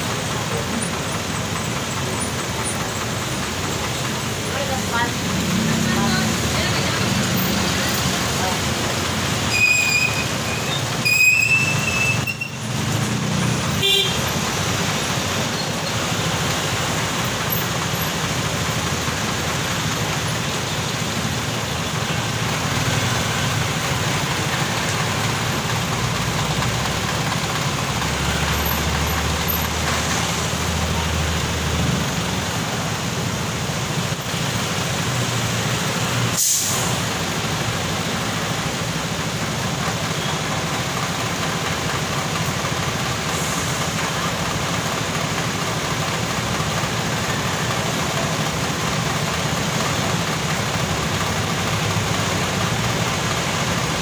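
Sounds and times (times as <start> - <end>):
street traffic engines: 0.0 - 54.0.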